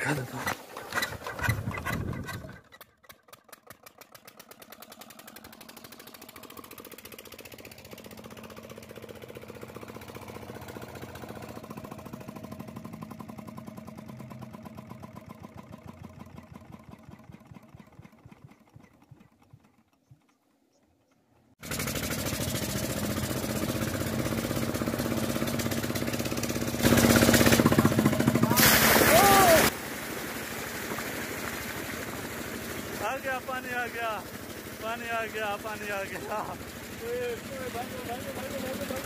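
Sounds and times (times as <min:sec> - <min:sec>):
diesel engine running: 0:03.5 - 0:17.7, 0:21.6 - 0:39.0.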